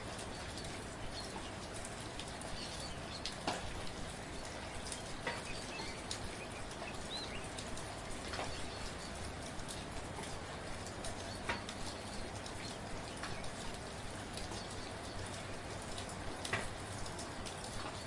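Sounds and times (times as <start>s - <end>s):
light rain patter: 0.0s - 18.0s
raindrops striking close by: 0.0s - 18.0s.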